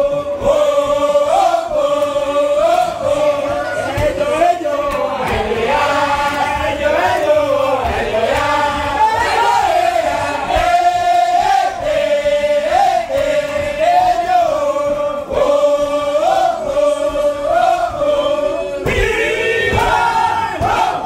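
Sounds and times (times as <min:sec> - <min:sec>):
group singing in unison: 0:00.0 - 0:21.0.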